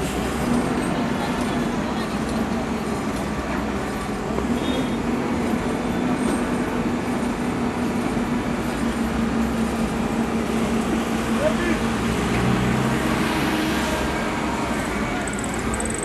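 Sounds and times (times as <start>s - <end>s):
motor vehicle running: 0.0s - 16.0s.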